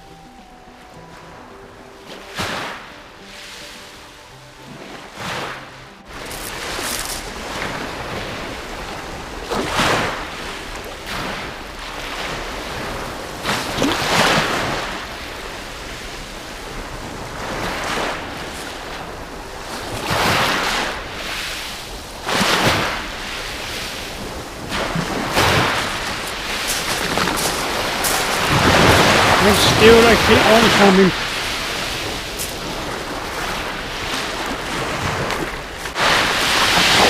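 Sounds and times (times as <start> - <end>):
waves breaking on beach: 0.0 - 37.0.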